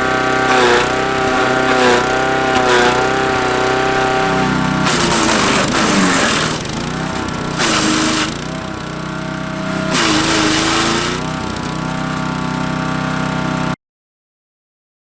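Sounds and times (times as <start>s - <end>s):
blades grinding branches: 0.0s - 13.6s
wood chipper engine running: 0.0s - 13.8s.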